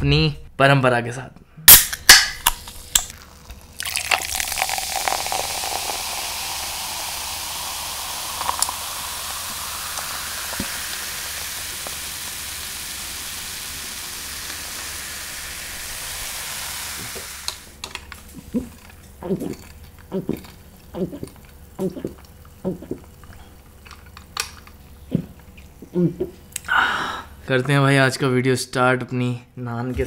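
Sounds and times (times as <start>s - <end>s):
sizzling hiss: 1.7s - 25.8s.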